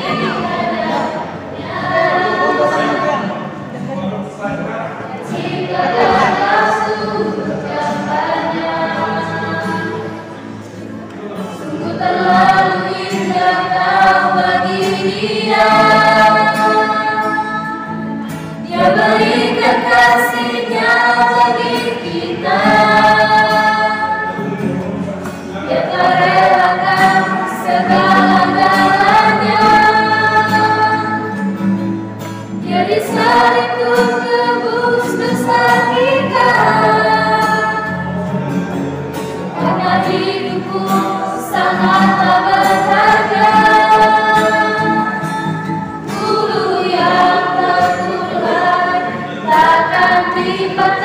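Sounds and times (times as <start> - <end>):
acoustic guitar: 0.0 - 51.0
youth choir singing a hymn: 0.0 - 51.0.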